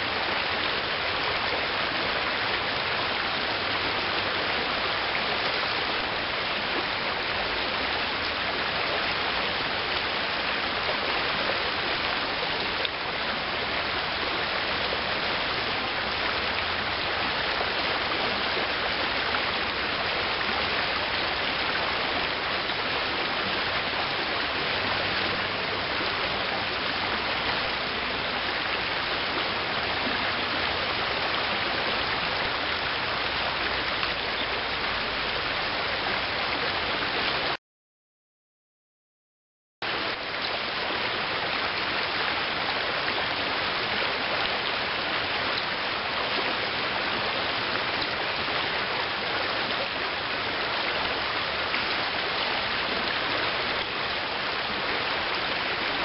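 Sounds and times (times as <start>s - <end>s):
river water rushing: 0.0s - 37.6s, 39.9s - 56.0s.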